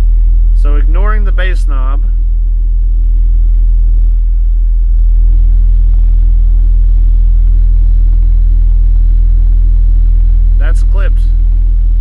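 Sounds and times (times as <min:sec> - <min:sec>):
low sine test tone: 0:00.0 - 0:12.0.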